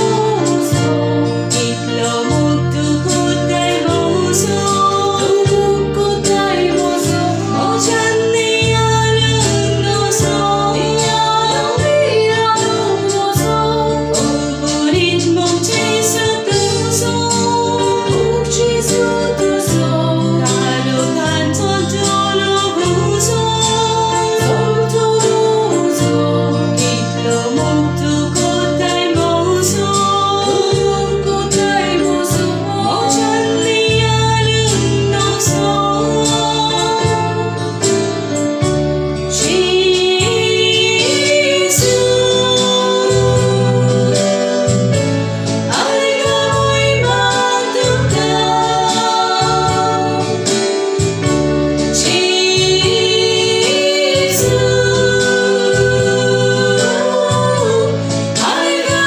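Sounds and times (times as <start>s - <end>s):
person singing a hymn: 0.0s - 38.5s, 39.2s - 59.0s
bass line: 0.0s - 59.0s
keyboard backing music: 0.0s - 59.0s.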